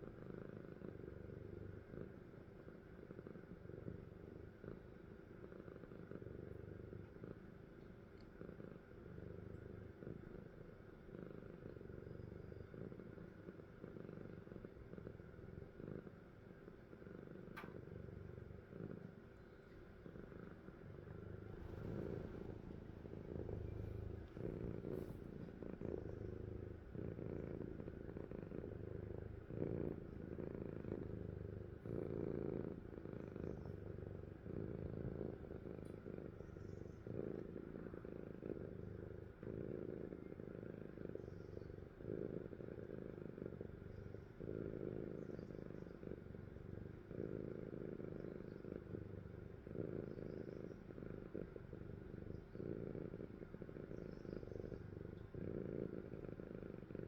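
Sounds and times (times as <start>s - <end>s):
cat snoring: 0.0s - 7.5s, 8.4s - 57.0s.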